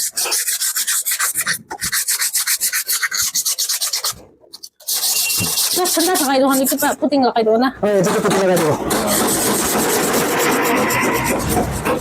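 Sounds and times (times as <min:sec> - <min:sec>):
sandpaper scraping metal: 0:00.0 - 0:07.1, 0:08.0 - 0:12.0.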